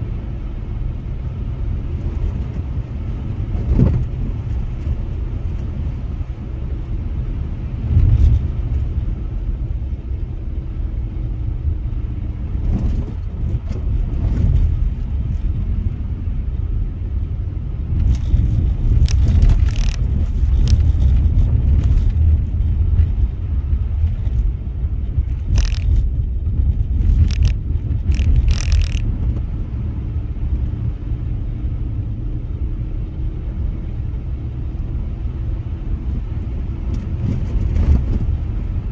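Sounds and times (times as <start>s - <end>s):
tyre and engine rumble: 0.0s - 38.9s.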